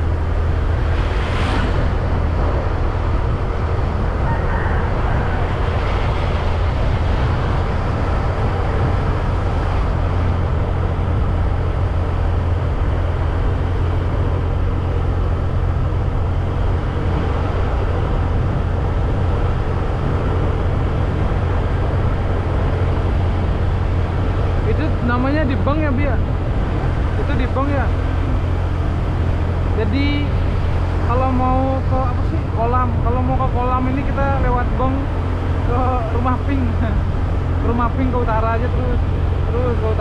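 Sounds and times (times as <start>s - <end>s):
motorbike engine rumble: 0.0s - 40.0s
wind on microphone: 0.0s - 40.0s.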